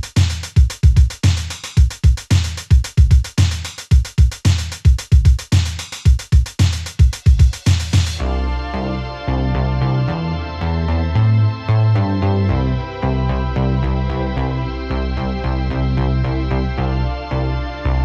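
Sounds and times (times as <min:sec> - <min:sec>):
electronic hip-hop beat: 0:00.0 - 0:18.0.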